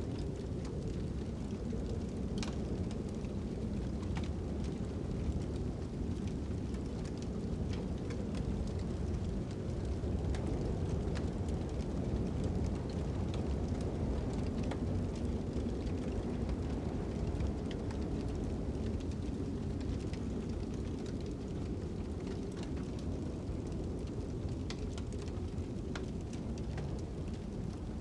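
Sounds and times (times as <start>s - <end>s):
fire crackling and popping: 0.0s - 28.0s
low rumble of wind: 0.0s - 28.0s.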